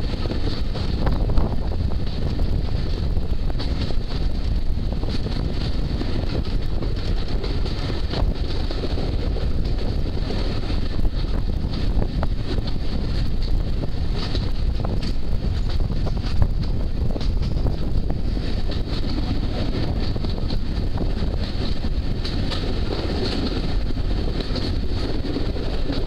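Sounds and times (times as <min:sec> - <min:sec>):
train running noise: 0:00.0 - 0:26.0
wheels ticking on track: 0:00.0 - 0:26.0
wind buffeting microphone: 0:00.0 - 0:26.0.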